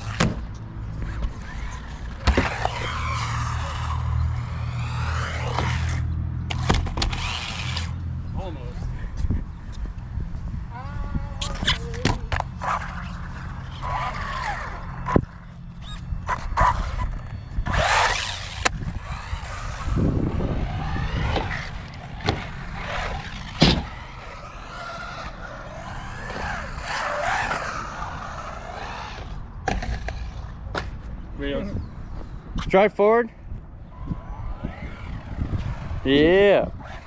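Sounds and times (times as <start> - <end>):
electric motor whining: 0.0 - 30.7, 33.9 - 37.0.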